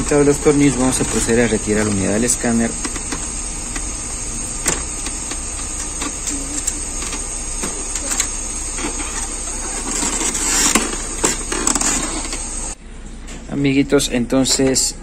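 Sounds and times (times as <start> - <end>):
steady hiss: 0.0 - 12.8.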